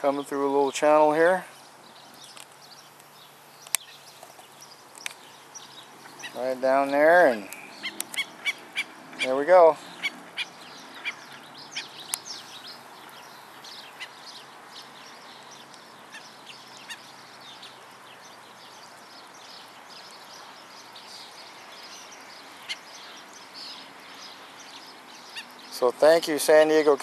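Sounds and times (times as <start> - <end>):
waterbirds calling: 0.0 - 27.0.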